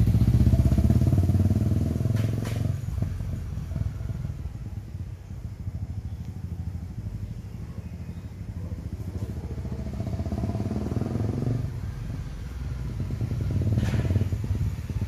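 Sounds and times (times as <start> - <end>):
motorcycle engine riding away: 0.0 - 15.0.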